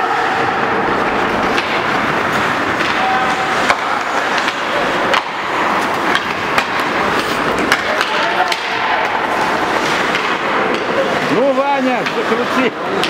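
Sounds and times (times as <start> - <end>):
hockey sticks clacking: 0.1 - 13.0
skate blades scraping ice: 0.1 - 13.0.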